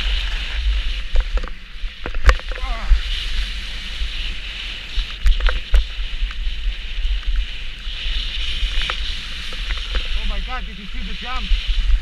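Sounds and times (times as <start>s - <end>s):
scraping hiss of sliding on snow: 0.0s - 12.0s
wind rumbling on microphone: 0.0s - 12.0s.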